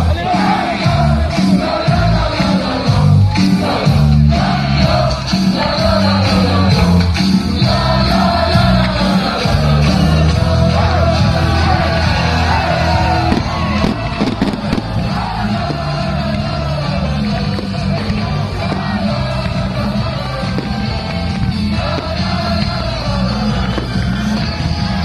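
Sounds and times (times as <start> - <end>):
rock music with singer: 0.0 - 25.0
steady bass line: 0.0 - 25.0.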